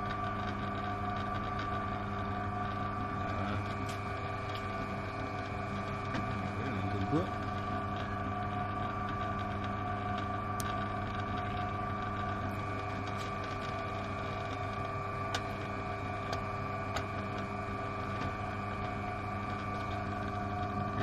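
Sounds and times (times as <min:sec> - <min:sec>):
pillar drill motor hum: 0:00.0 - 0:21.0.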